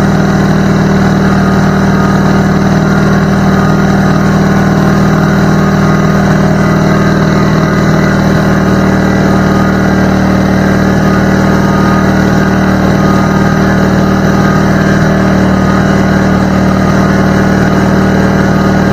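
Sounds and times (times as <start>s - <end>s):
air compressor drone: 0.0s - 18.9s.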